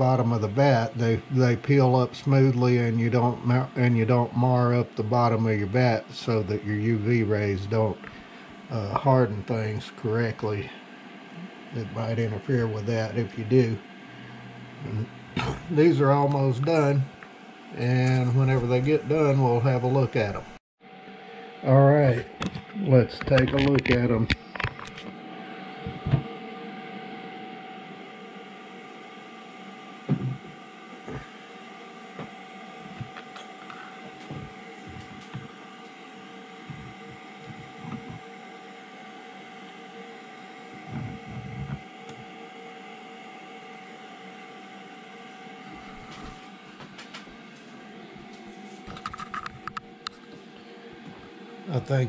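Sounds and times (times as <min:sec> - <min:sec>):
resin printer whine: 0:00.0 - 0:52.0.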